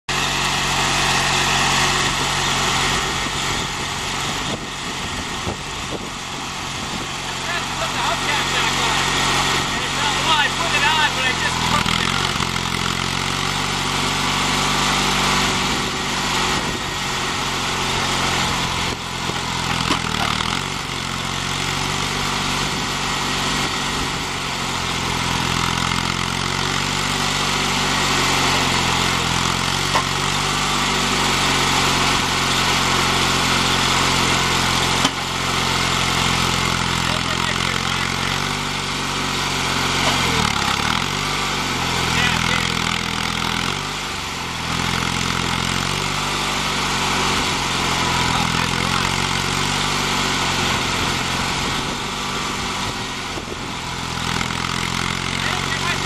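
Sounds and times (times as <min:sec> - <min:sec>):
backhoe digging soil: 0:00.1 - 0:56.0
lawn tractor engine running: 0:00.1 - 0:56.0.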